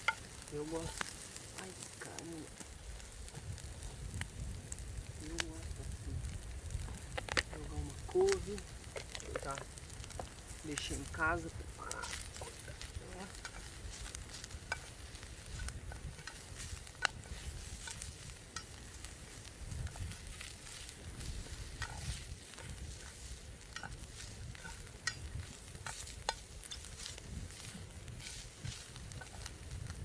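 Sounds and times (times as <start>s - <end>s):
sausage sizzling in a pan: 0.0s - 30.0s.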